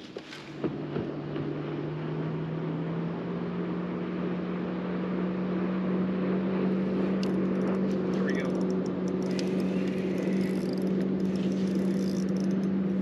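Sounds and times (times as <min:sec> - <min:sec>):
boat motor humming: 0:00.6 - 0:13.0.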